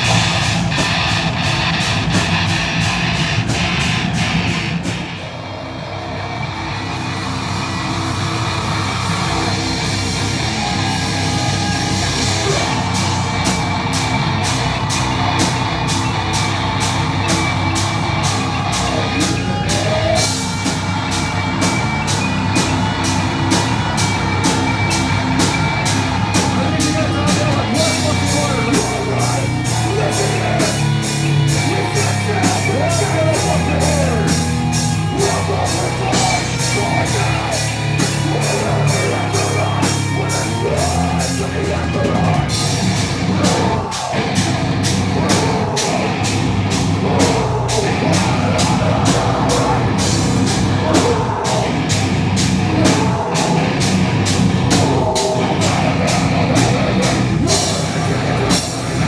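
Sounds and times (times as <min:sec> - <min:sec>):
drum kit fast beat: 0:00.0 - 0:59.0
heavy metal band playing: 0:00.0 - 0:59.0.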